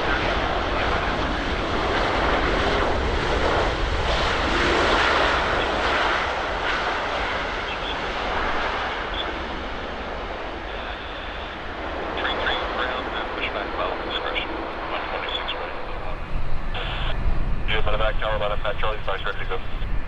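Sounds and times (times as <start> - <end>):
jet airliner roar: 0.0 - 20.0.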